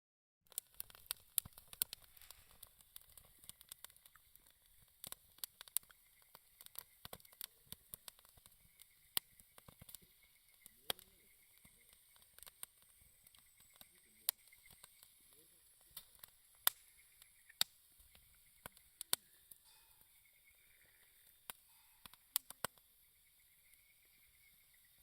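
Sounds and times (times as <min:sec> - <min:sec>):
campfire crackling: 0:00.5 - 0:25.0
faint steady hiss: 0:00.5 - 0:25.0.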